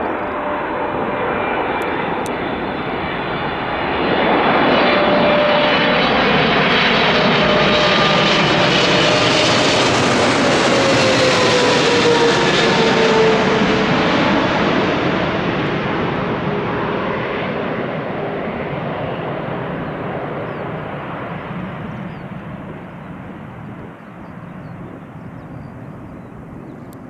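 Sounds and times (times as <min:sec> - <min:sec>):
jet airliner engines whining: 0:00.0 - 0:27.0.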